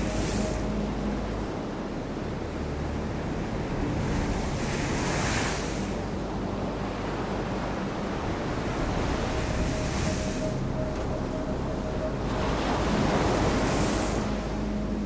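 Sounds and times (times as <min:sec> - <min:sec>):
heavy waves breaking: 0:00.0 - 0:15.0.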